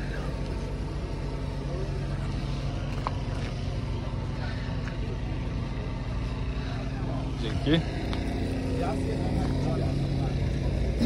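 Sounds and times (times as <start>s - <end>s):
faint voices: 0.0s - 11.0s
steady low hum: 0.0s - 11.0s.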